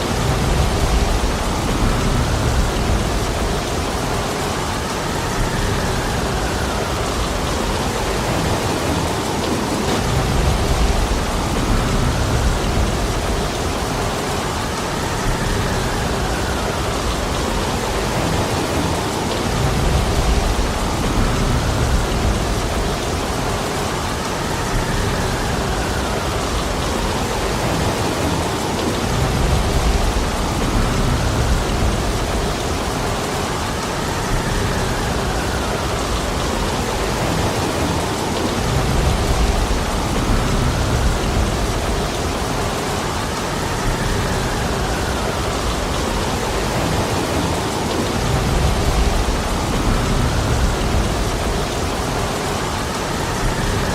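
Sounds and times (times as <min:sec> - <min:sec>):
heavy rain: 0:00.0 - 0:53.9
wind gusting through forest: 0:00.0 - 0:53.9.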